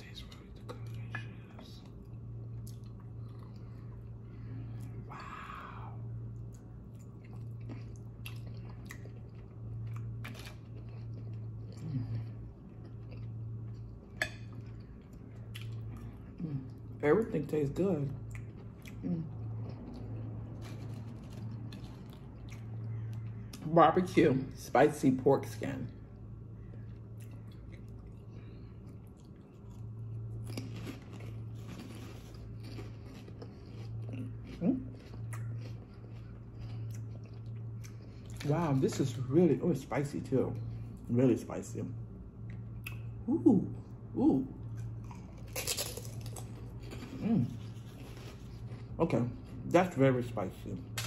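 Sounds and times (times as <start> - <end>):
person chewing food: 0.0 - 17.0, 17.8 - 23.7, 26.0 - 38.8, 42.1 - 49.8
steady low hum: 0.0 - 51.0.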